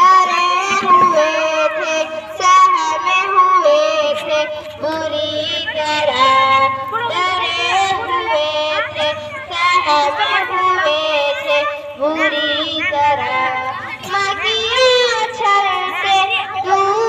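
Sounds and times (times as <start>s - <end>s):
high voice singing: 0.0s - 17.0s.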